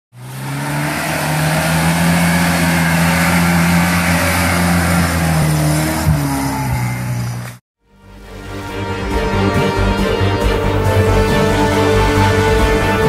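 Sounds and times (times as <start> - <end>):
engine working at high revs: 0.1 - 7.6, 9.5 - 13.0.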